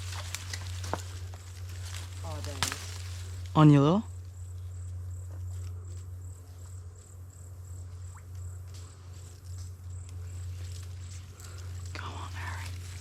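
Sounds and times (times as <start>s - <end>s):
insect chirping: 0.0s - 13.0s
low steady hum: 0.0s - 13.0s.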